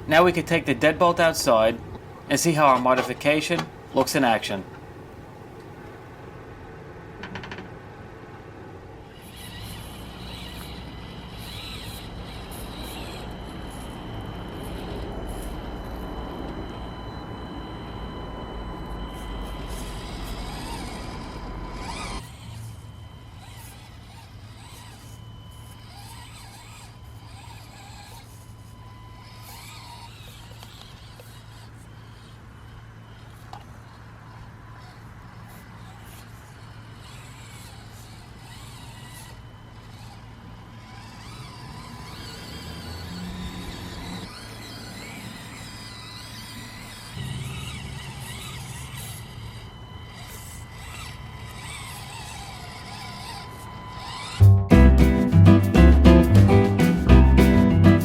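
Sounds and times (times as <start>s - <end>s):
small electric motor whining: 8.9s - 58.0s.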